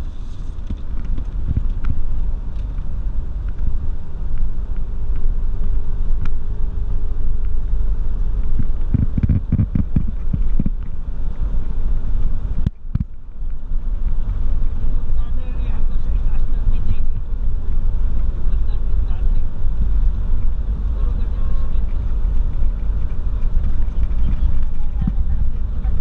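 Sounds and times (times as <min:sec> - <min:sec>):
baler engine rumble: 0:00.0 - 0:26.0.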